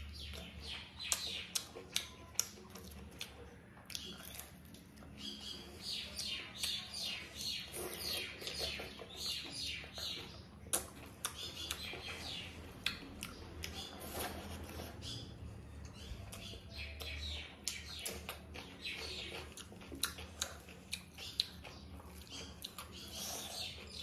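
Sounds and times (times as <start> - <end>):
wet chewing and mouth sounds: 0.0 - 24.0.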